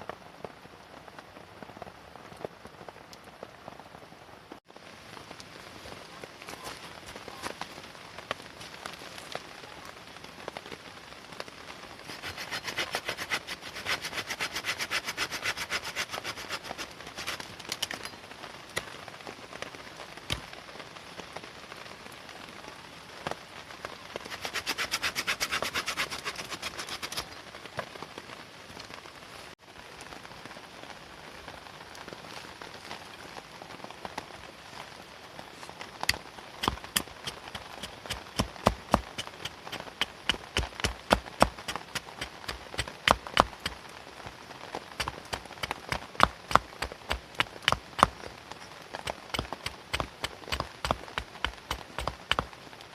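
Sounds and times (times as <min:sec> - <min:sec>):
rain falling steadily: 0:00.0 - 0:52.9.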